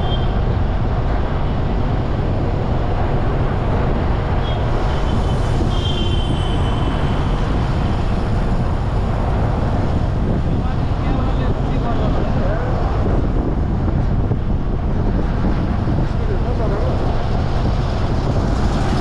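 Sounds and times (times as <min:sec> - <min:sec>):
road noise and wind rush: 0:00.0 - 0:19.0
vehicle traffic: 0:00.0 - 0:19.0.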